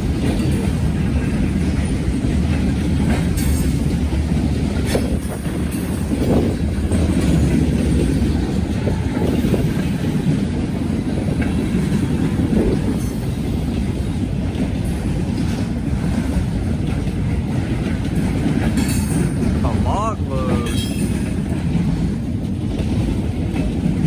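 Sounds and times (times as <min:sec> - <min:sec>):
freight train cars rolling past: 0:00.0 - 0:24.0.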